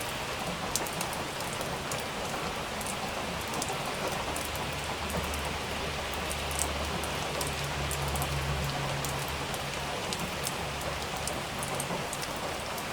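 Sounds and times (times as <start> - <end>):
heavy rain with ticking drops: 0.0 - 12.9.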